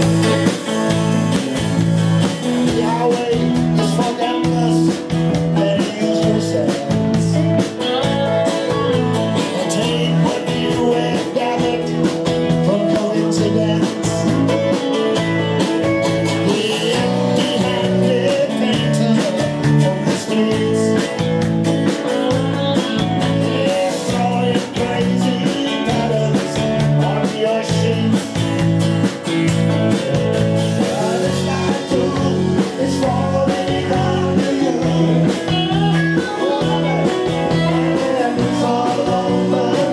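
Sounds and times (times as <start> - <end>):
drums: 0.0 - 39.9
electric bass: 0.0 - 39.9
electric guitar: 0.0 - 39.9
person singing: 2.2 - 28.7, 30.0 - 39.9.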